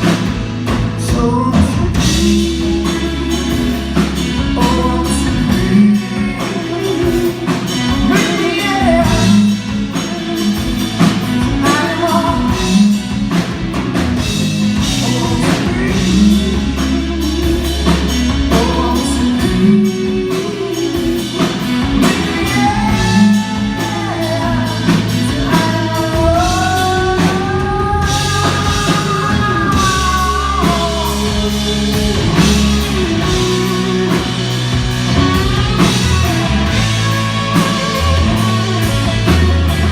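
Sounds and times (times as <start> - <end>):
lead vocal singing: 0.0 - 39.9
live rock band: 0.0 - 39.9.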